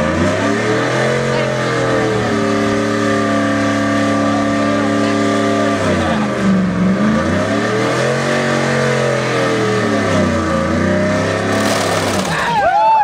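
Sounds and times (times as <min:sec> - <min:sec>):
pickup engine revving hard: 0:00.0 - 0:12.6.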